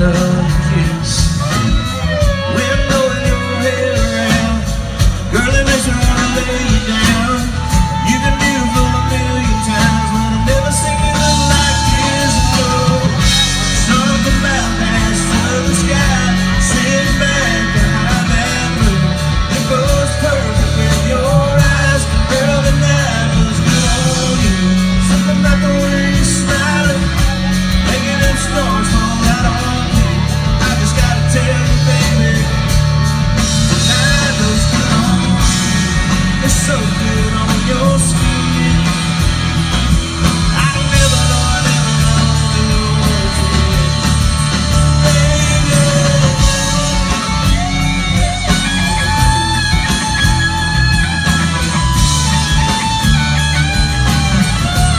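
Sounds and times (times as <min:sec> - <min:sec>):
live country rock band: 0:00.0 - 0:54.9.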